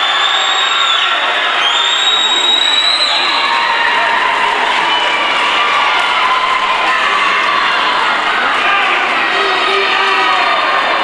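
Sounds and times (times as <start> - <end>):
crowd shouting and cheering: 0.0 - 11.0.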